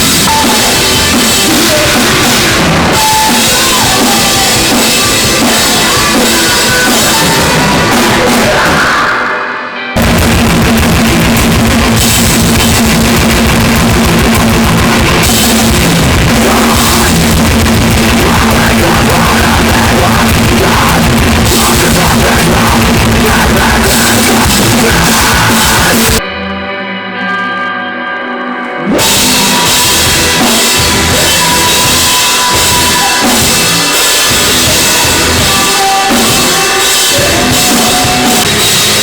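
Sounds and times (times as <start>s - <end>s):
bass guitar: 0.0s - 9.2s, 9.8s - 39.0s
pounding drum kit: 0.0s - 9.2s, 10.0s - 26.2s, 28.8s - 39.0s
distorted guitars: 0.0s - 39.0s.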